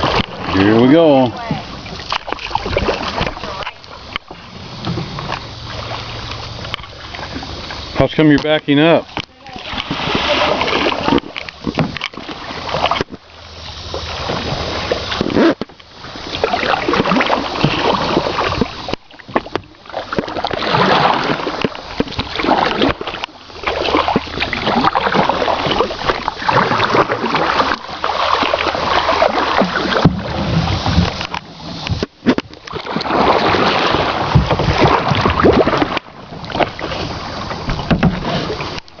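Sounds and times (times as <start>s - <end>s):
water splashing around kayak: 0.0s - 39.0s.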